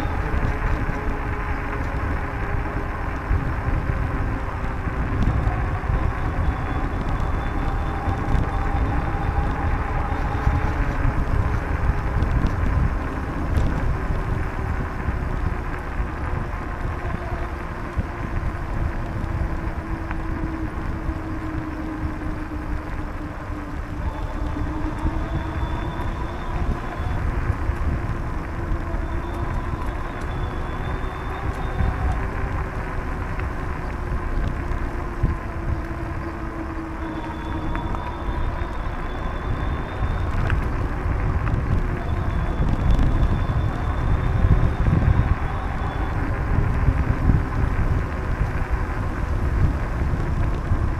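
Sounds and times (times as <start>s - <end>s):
bicycle tyres rolling on pavement: 0.0s - 50.9s
faint whine: 0.0s - 50.9s
wind rumble on microphone: 0.0s - 50.9s.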